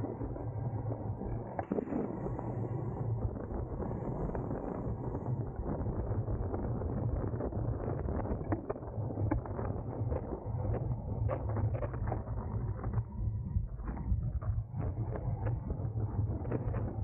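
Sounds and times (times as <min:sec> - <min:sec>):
low road rumble: 0:00.0 - 0:17.0
wind rushing over microphone: 0:00.0 - 0:17.0.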